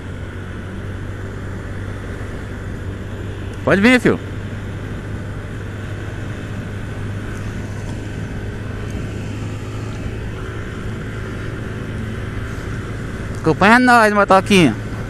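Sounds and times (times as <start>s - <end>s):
motorcycle engine hum: 0.0s - 15.0s
road noise: 0.0s - 15.0s.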